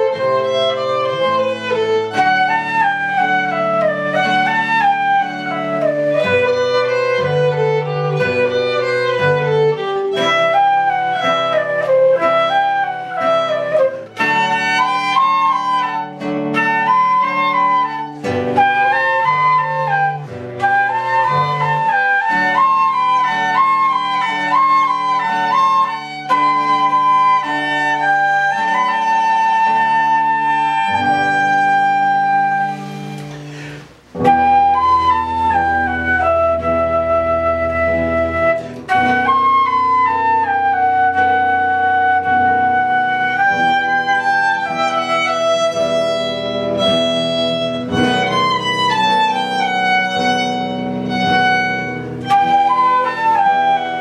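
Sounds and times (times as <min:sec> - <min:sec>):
bowed strings: 0:00.0 - 0:54.0
flute-like wind melody: 0:00.0 - 0:54.0.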